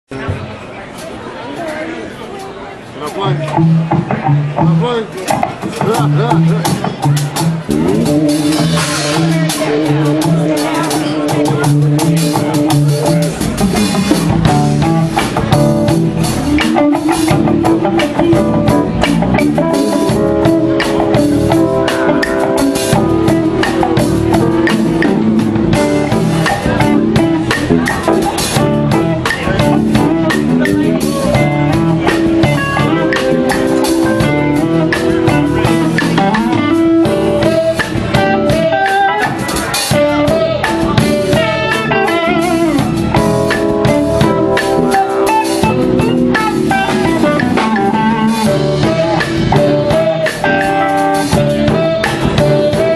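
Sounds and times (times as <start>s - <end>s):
band playing instrumental soul: 0.1s - 52.9s
drum kit beat: 3.0s - 52.9s
guitar melody: 3.0s - 52.9s.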